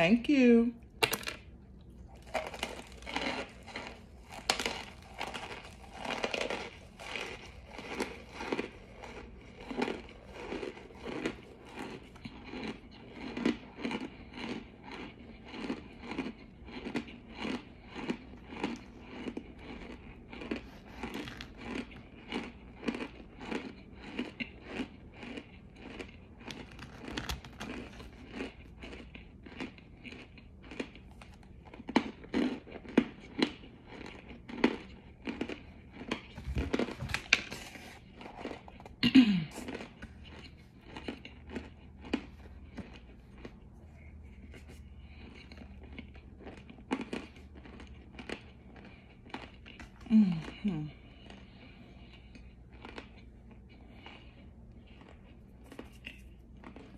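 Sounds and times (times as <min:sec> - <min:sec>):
crunchy chewing: 0:01.4 - 0:56.9.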